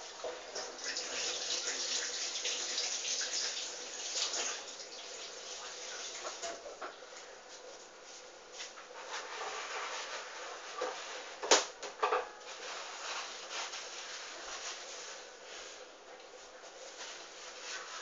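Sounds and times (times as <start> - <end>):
laundry swishing in washing machine: 0.0 - 11.8, 12.4 - 18.0.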